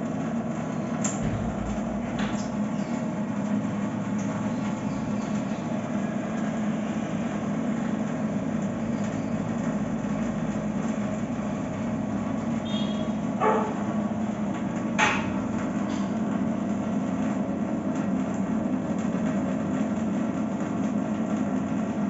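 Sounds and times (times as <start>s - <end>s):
water purifier pump humming: 0.0s - 22.0s.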